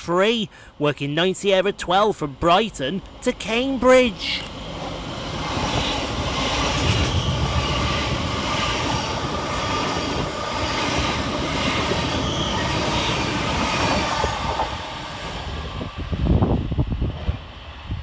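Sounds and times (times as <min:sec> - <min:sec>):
train wheels on rails: 0:02.6 - 0:18.0.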